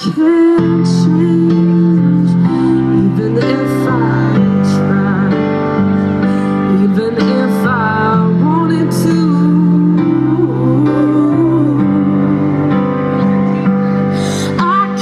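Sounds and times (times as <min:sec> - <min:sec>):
woman singing slow song: 0:00.0 - 0:15.0.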